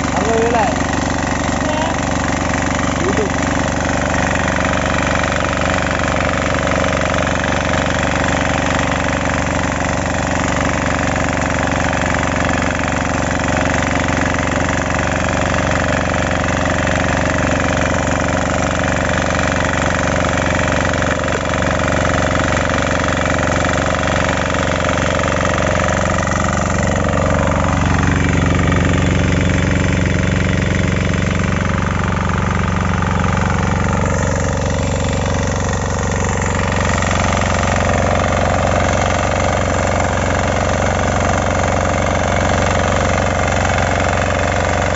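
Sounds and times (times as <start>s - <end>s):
cultivator engine running under load: 0.0s - 44.9s.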